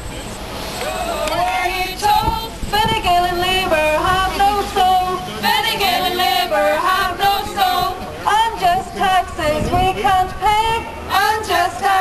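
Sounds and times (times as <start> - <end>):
women singing wordlessly: 1.0 - 12.0.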